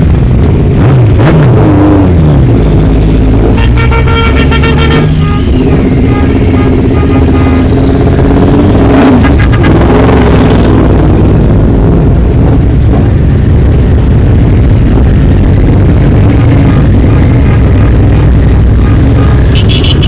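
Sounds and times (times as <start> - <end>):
motorcycle revving: 0.0 - 20.0.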